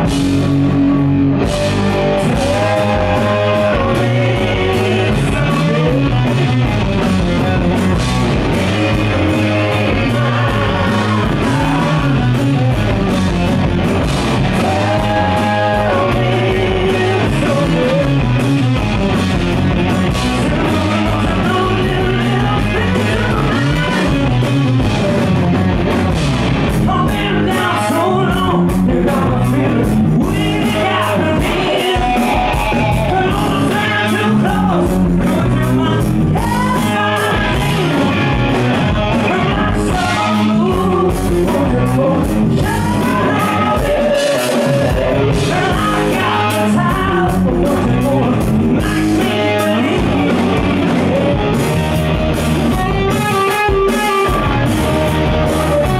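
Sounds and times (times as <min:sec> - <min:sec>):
live rock band: 0:00.0 - 0:55.9
male lead singer: 0:00.0 - 0:55.9.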